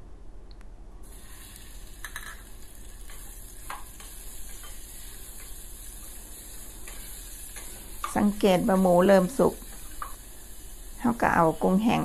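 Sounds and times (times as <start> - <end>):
meat sizzling in oil: 1.1 - 12.0.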